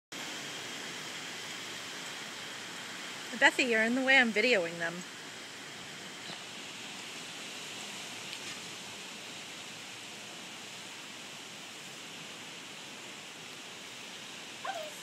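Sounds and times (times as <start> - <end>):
outdoor background hiss: 0.1 - 15.0.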